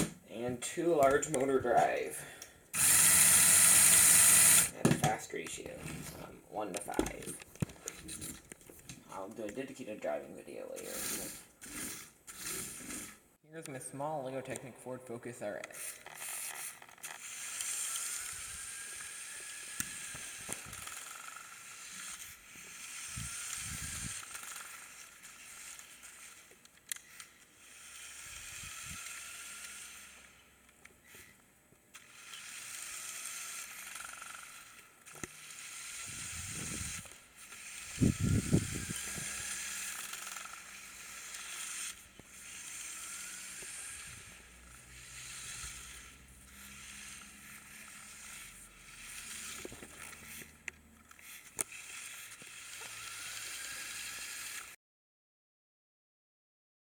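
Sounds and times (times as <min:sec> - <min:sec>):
toy car electric motors whirring: 0:01.0 - 0:04.8, 0:10.6 - 0:13.2, 0:15.6 - 0:54.8.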